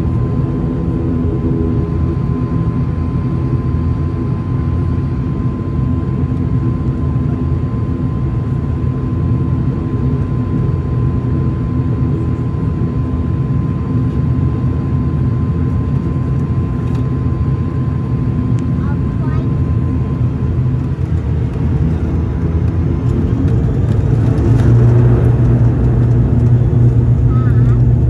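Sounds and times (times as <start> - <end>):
turboprop engines droning in cabin: 0.0 - 28.0.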